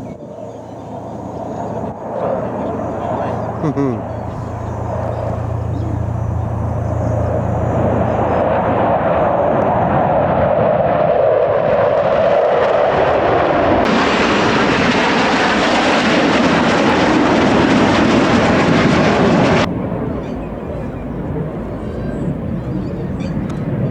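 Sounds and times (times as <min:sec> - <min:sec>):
aircraft flying past: 0:00.0 - 0:23.9.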